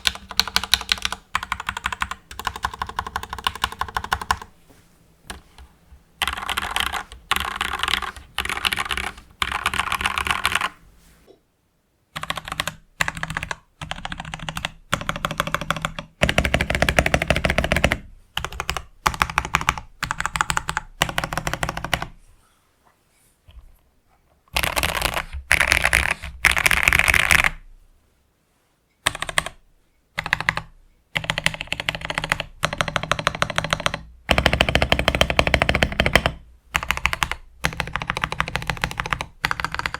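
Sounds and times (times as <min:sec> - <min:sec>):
mechanical keyboard typing: 0:00.0 - 0:04.5, 0:05.3 - 0:10.8, 0:12.2 - 0:22.1, 0:24.6 - 0:27.6, 0:29.0 - 0:29.6, 0:30.2 - 0:39.9.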